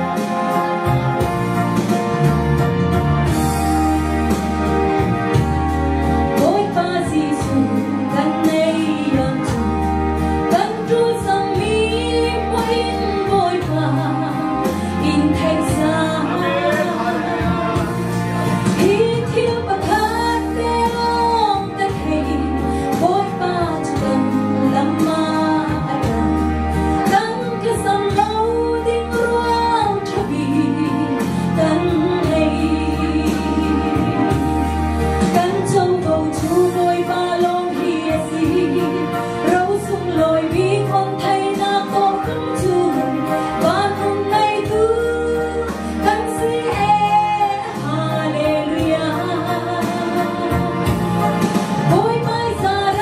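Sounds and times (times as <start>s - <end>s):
amplified instrumental accompaniment: 0.0s - 53.0s
woman singing gospel song: 6.3s - 9.8s, 10.4s - 53.0s.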